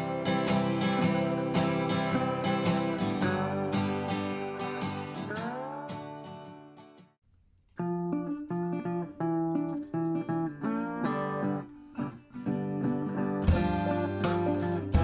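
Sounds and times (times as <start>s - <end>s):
acoustic guitar music: 0.0s - 7.2s, 7.8s - 15.0s.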